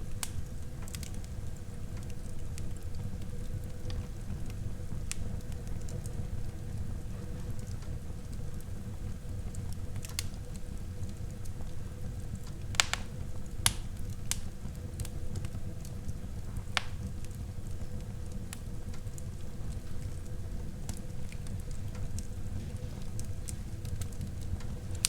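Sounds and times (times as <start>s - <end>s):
fire flames rumbling: 0.0s - 25.0s
wood fire crackling and popping: 0.0s - 25.0s.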